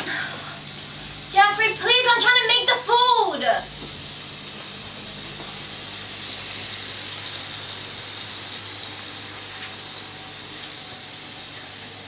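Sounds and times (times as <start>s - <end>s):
steady kitchen hiss: 0.0s - 12.0s.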